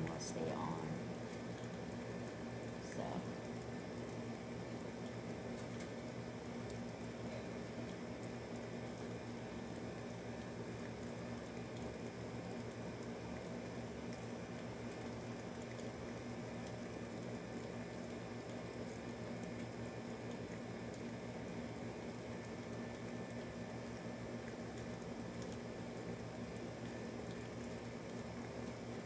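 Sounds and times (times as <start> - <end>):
air conditioner humming: 0.0 - 29.0
rain pattering: 0.0 - 29.0.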